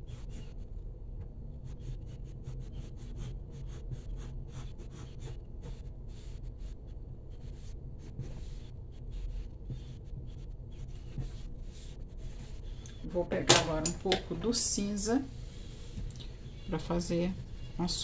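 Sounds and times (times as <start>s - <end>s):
pencil scratching on paper: 0.0s - 0.7s, 1.6s - 18.0s
steady low hum: 0.0s - 18.0s.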